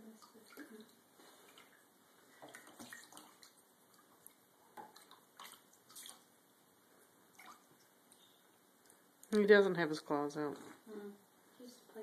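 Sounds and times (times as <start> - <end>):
faint water splashes: 0.0 - 9.8.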